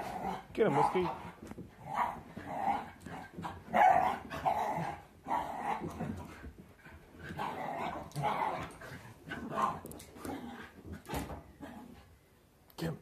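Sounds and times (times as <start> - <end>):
dogs barking and yapping: 0.0 - 12.0.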